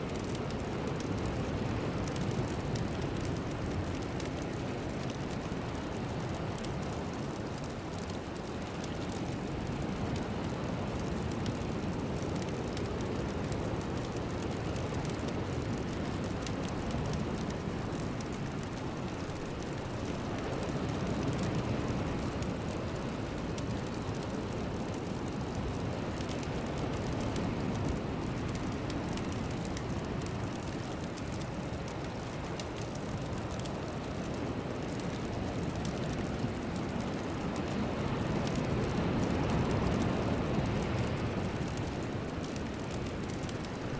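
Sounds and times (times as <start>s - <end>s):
steady crackling rushing noise: 0.0s - 43.9s.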